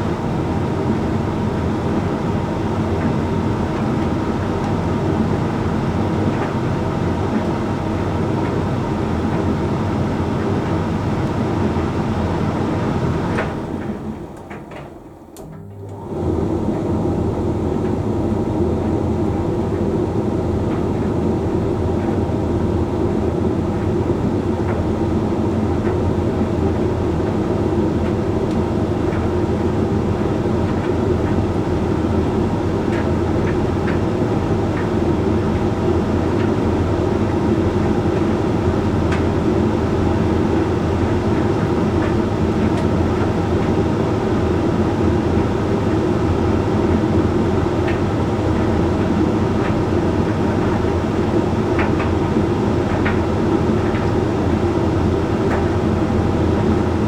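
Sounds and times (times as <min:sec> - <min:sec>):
tumble dryer humming: 0:00.0 - 0:57.0.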